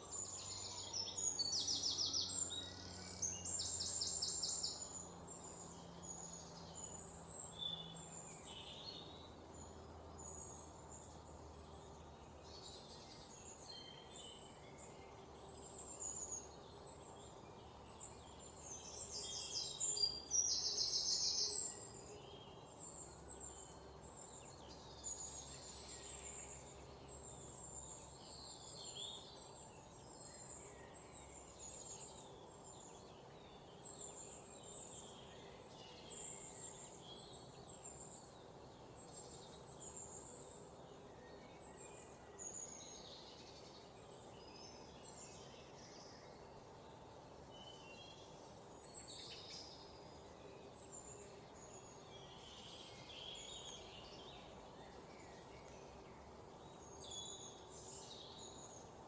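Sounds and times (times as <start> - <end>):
faint background noise: 0.0 - 59.0
small birds chirping: 0.0 - 59.0.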